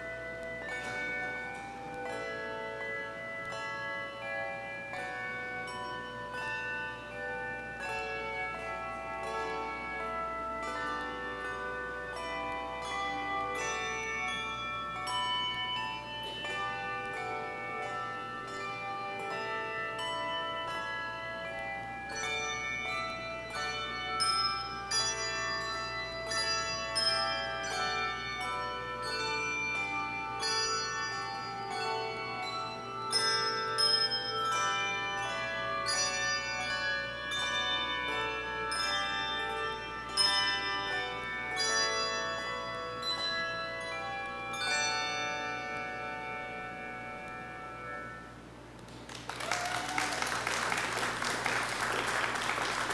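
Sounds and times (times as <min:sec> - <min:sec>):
handbell choir ringing: 0:00.0 - 0:52.9.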